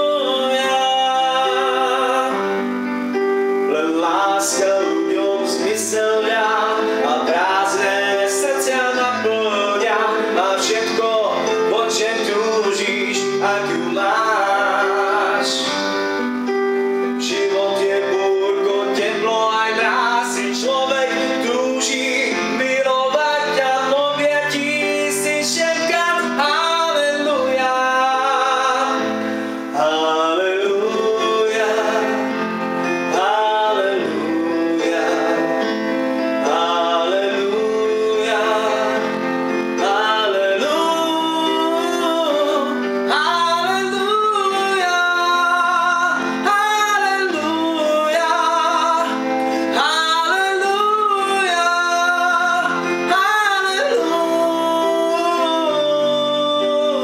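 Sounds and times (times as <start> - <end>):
guitar accompaniment: 0.0 - 57.0
person singing slow melody: 0.0 - 57.0.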